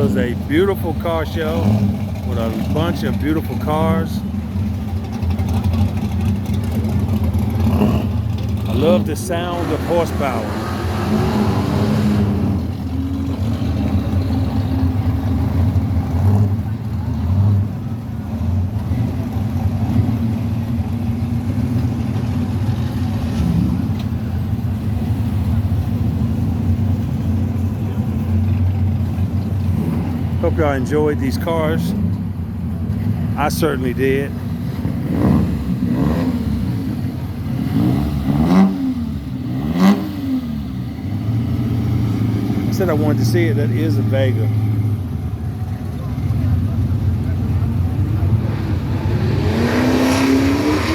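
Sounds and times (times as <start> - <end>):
car engines rumbling: 0.0 - 50.9.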